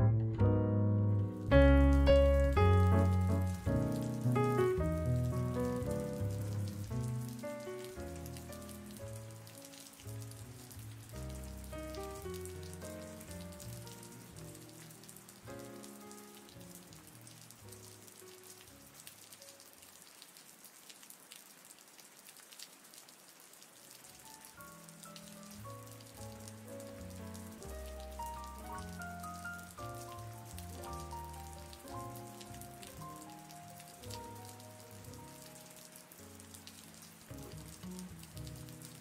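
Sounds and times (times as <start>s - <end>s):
soft slow background music: 0.0s - 19.7s, 24.2s - 39.0s
rain pattering: 1.2s - 39.0s.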